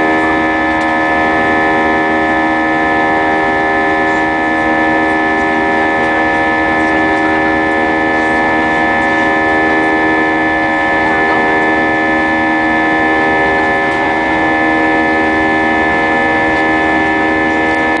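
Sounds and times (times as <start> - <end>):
jet engines droning: 0.0 - 18.0
whining tones: 0.0 - 18.0.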